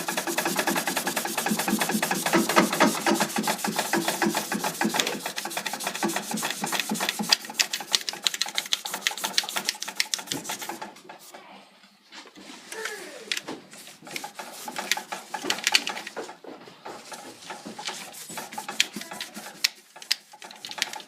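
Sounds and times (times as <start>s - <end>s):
eraser scrubbing a playfield: 0.0s - 11.3s, 13.8s - 16.3s, 16.9s - 21.0s.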